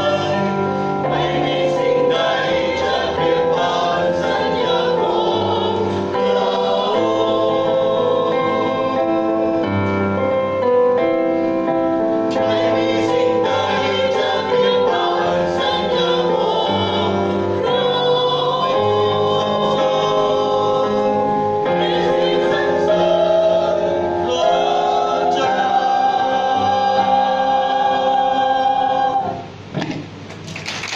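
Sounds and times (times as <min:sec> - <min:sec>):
mixed choir singing a hymn: 0:00.0 - 0:29.6.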